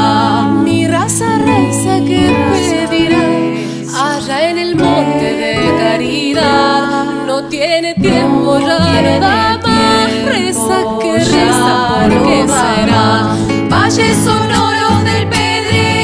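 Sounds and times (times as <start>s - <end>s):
acoustic guitars: 0.0s - 16.0s
female vocal trio singing folk song: 0.0s - 16.0s.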